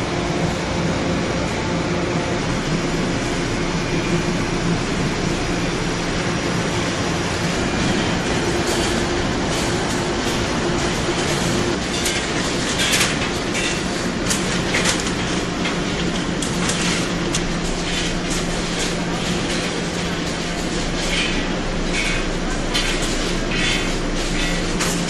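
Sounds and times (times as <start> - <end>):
food processing machinery running: 0.0 - 25.0.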